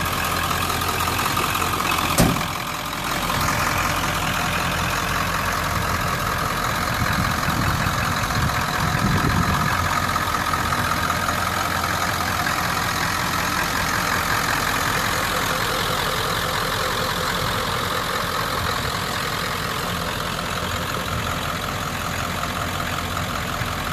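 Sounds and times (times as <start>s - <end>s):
diesel engine idling: 0.0s - 23.9s.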